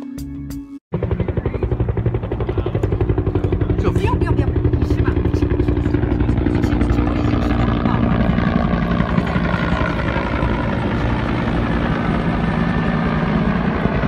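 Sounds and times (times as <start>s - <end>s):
helicopter rotor chop: 0.9s - 14.0s.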